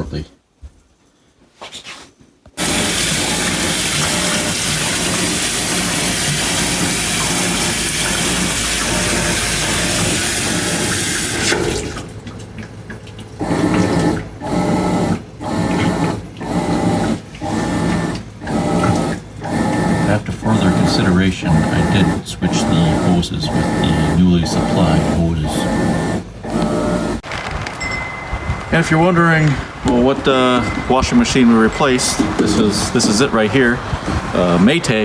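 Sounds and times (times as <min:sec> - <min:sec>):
pulsing water sound: 0:02.6 - 0:35.0
water rushing into washing machine: 0:02.6 - 0:35.0.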